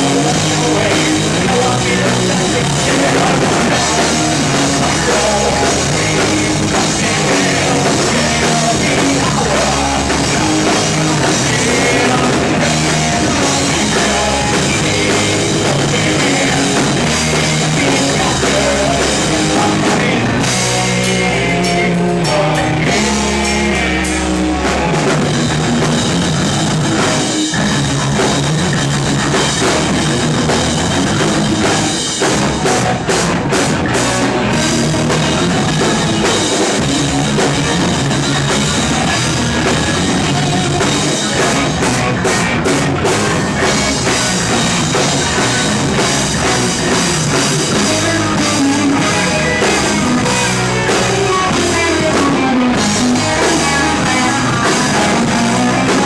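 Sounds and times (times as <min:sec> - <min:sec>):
drum kit: 0:00.0 - 0:56.0
guitars: 0:00.0 - 0:56.0
rock band playing live: 0:00.0 - 0:56.0.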